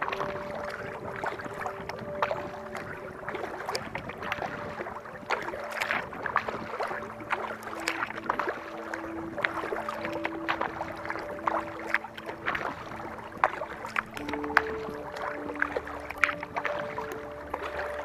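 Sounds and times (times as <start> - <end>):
paddle dipping into water: 0.0 - 18.0
small splashes and drips: 0.0 - 18.0.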